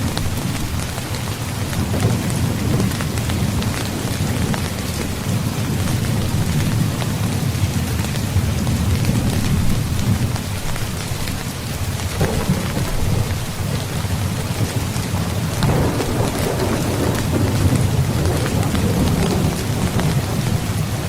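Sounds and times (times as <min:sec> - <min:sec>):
rain falling: 0:00.0 - 0:21.0
thunder rumbling: 0:00.0 - 0:21.0.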